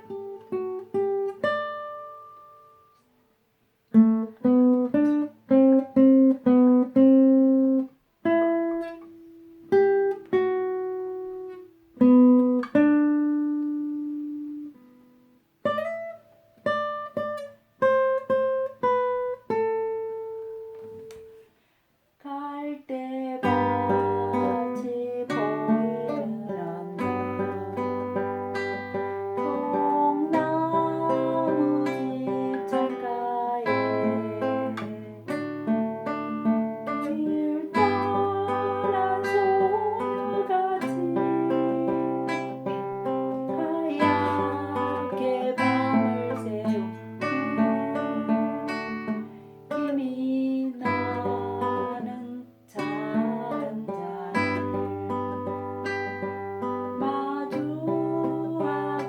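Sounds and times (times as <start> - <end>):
acoustic guitar melody: 0.0 - 59.0.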